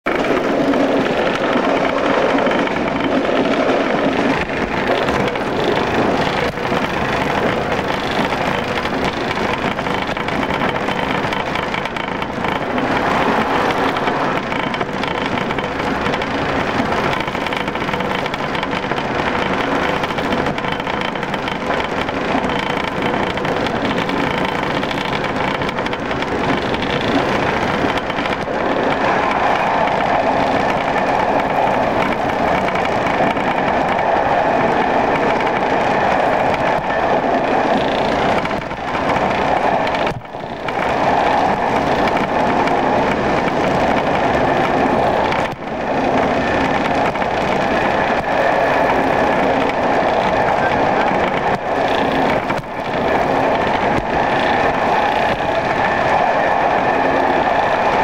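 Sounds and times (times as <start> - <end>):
train running inside carriage: 0.1 - 58.0.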